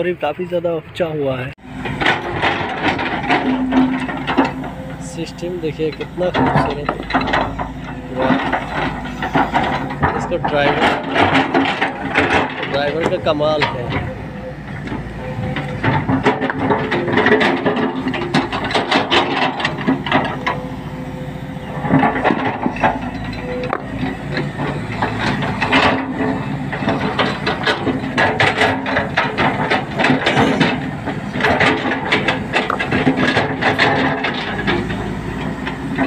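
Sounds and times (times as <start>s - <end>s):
diesel engine running: 0.0s - 36.0s
clatter of knocks and clanks: 1.8s - 36.0s.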